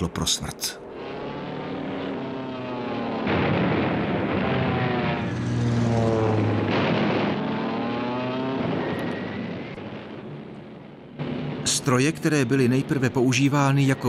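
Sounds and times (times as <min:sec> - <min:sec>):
propeller planes flying past: 0:00.0 - 0:14.0.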